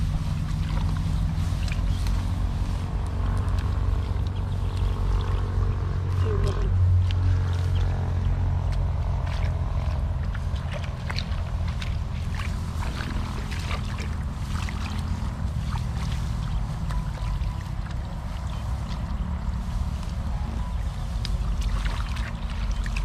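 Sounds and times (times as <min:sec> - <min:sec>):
low engine drone: 0:00.0 - 0:23.0
hands splashing in muddy water: 0:03.1 - 0:19.9, 0:20.7 - 0:23.0.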